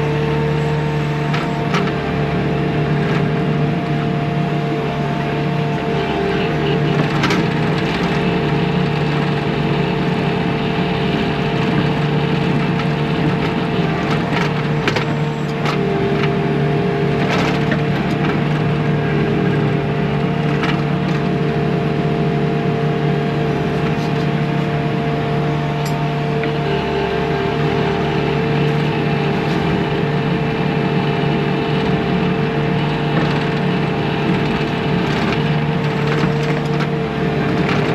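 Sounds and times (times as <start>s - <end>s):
diesel engine under load: 0.0s - 37.9s
steady whine: 0.0s - 37.9s.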